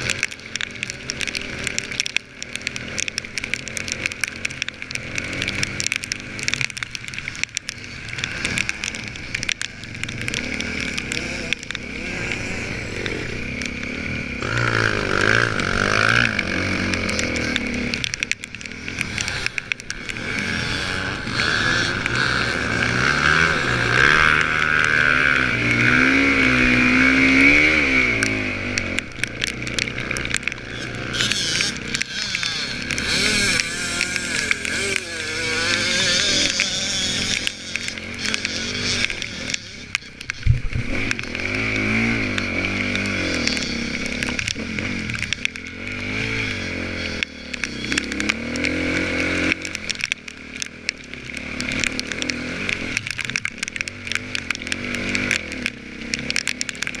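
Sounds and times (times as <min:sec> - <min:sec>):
dirt bike engine revving: 0:09.8 - 0:57.0.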